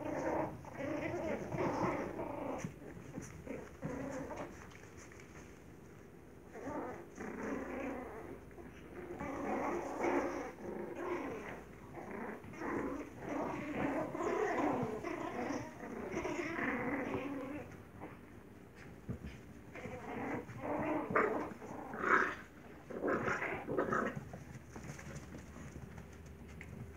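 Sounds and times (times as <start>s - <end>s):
puppies play-growling: 0.0s - 26.9s.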